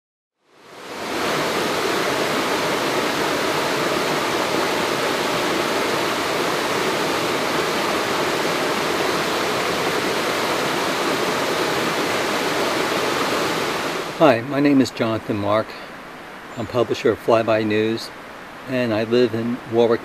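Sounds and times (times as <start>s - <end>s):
water rushing over rocks: 0.5s - 20.0s.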